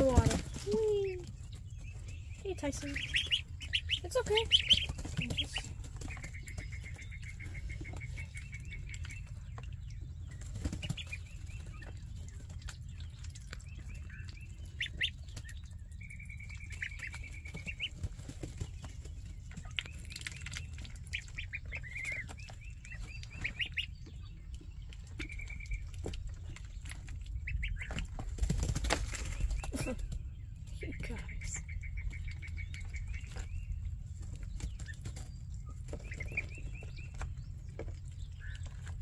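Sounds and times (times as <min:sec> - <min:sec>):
ducklings peeping: 0:00.0 - 0:39.0.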